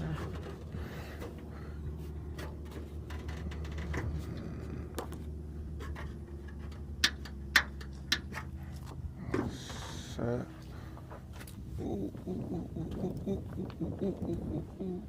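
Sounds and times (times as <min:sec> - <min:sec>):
light handling noises: 0:00.0 - 0:14.4
steady low hum: 0:00.0 - 0:15.0.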